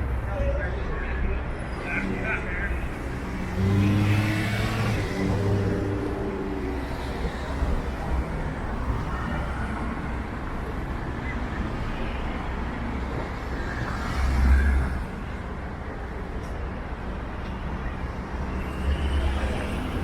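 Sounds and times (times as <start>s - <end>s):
passing cars road noise: 0.0s - 20.0s.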